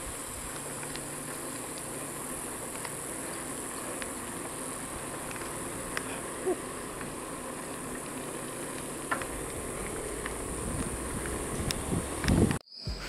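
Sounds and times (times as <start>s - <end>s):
bicycle rolling on asphalt: 0.0s - 12.6s
high-pitched insect chorus: 0.0s - 13.0s
faint ticks: 0.2s - 12.6s.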